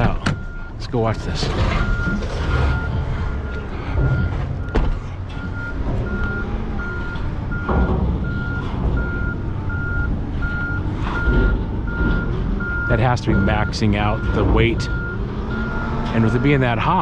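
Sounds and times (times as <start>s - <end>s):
diesel engine rumble: 0.0s - 17.0s
truck backup alarm beeping: 0.0s - 17.0s.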